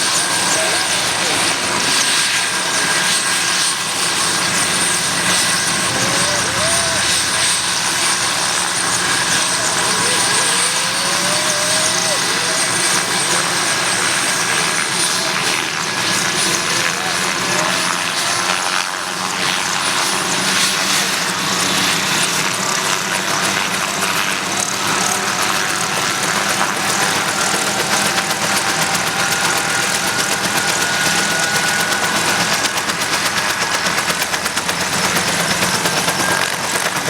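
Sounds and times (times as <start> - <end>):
aircraft engine noise: 0.0 - 37.0.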